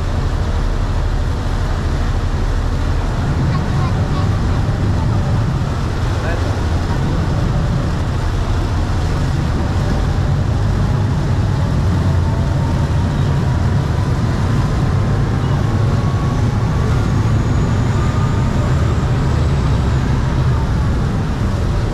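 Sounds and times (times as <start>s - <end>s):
boat engines rumbling: 0.0s - 21.9s
propeller wake churning: 0.0s - 21.9s.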